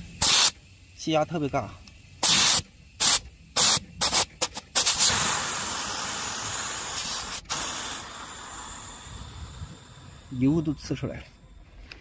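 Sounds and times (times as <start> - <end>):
gas spraying in spurts: 0.0 - 10.6
steady gas hiss: 0.0 - 11.0.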